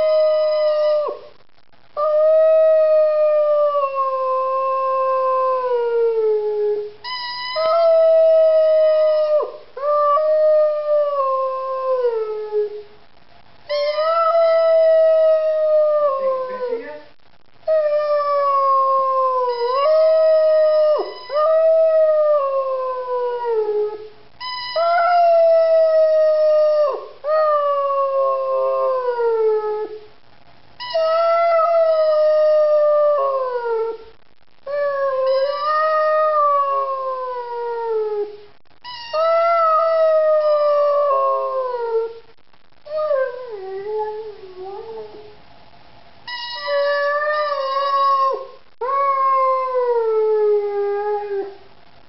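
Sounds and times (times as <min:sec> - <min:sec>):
dog howling: 0:00.0 - 0:01.3, 0:02.0 - 0:06.9, 0:07.6 - 0:12.8, 0:13.7 - 0:17.0, 0:17.7 - 0:24.1, 0:24.7 - 0:30.0, 0:30.9 - 0:34.0, 0:34.7 - 0:38.4, 0:39.1 - 0:42.2, 0:42.9 - 0:45.3, 0:46.3 - 0:51.6.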